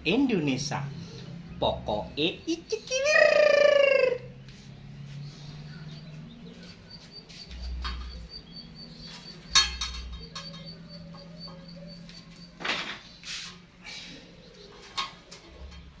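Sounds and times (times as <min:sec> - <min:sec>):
bird chirping: 0:00.4 - 0:16.0.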